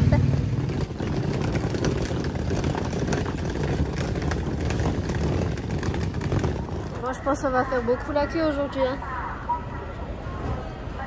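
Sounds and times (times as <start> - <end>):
suitcase wheels rattling on paving: 0.0 - 9.0.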